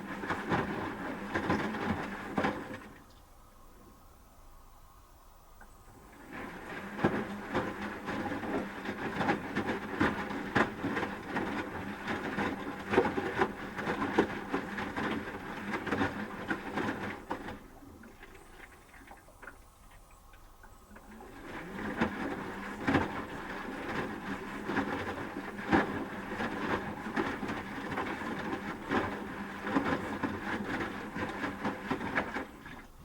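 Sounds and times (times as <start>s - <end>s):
water sloshing and knocking: 0.0s - 3.2s, 6.1s - 33.0s
faint motor hum: 0.0s - 33.0s.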